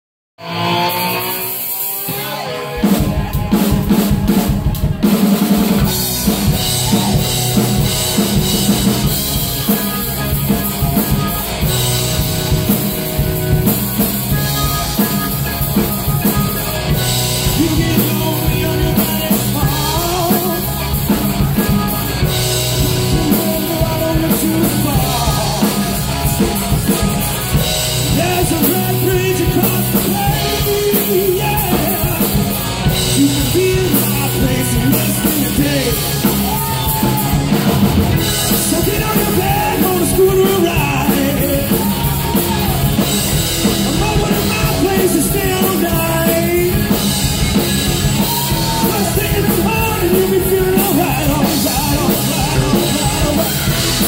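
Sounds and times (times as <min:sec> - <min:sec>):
bass guitar: 0:00.4 - 0:54.0
drum kit: 0:00.4 - 0:54.0
electric guitar: 0:00.4 - 0:54.0.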